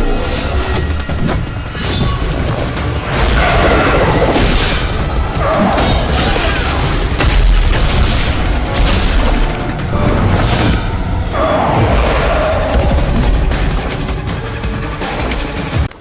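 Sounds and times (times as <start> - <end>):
dramatic action music: 0.0 - 16.0.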